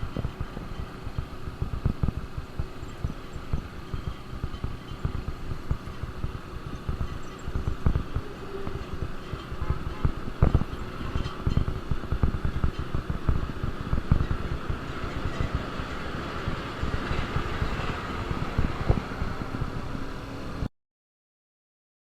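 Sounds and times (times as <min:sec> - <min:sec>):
motorcycle engine running: 0:00.0 - 0:20.7.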